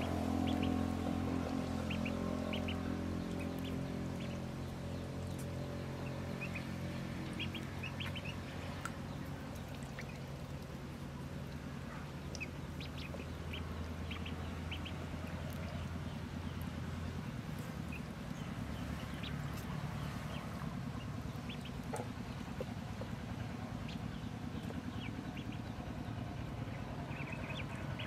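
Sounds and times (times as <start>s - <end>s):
ducklings peeping: 0.0s - 28.0s
steady low hum: 0.0s - 28.0s.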